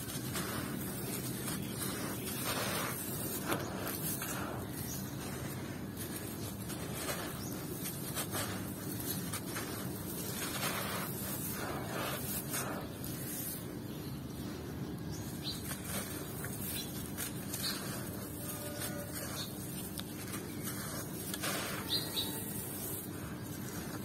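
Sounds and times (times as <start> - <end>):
sand and gravel crushed in hands: 0.0 - 13.8, 14.5 - 24.0
grit trickling through fingers: 0.0 - 24.0.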